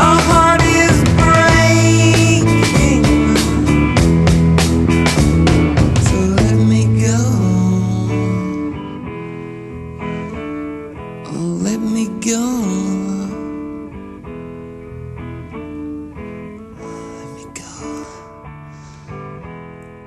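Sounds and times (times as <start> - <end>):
guitar-led rock song: 0.0 - 20.0.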